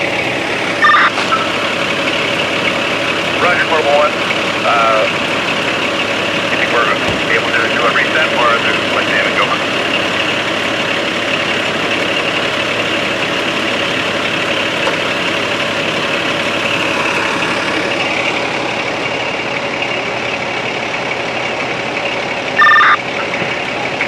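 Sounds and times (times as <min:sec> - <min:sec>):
large vehicle engine idling: 0:00.0 - 0:24.0.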